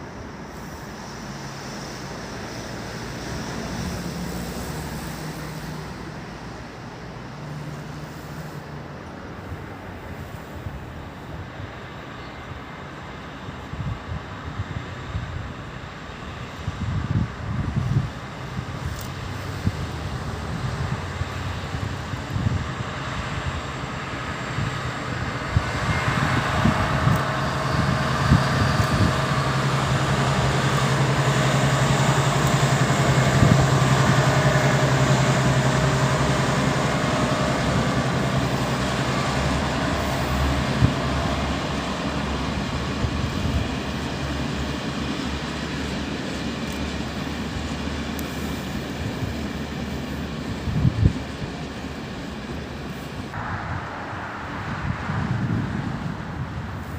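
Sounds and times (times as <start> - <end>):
diesel locomotive engine drone: 0.0 - 56.9
wagons rumbling on rails: 0.0 - 56.9.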